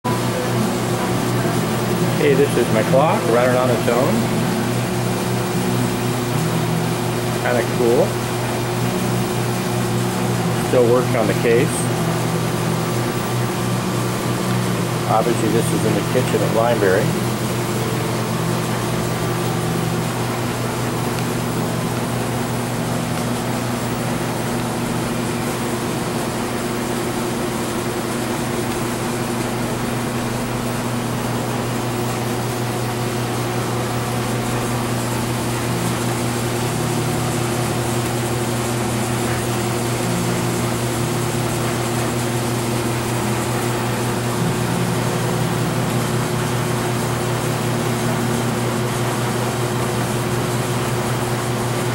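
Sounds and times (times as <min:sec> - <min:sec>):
low mechanical hum: 0:00.0 - 0:51.9.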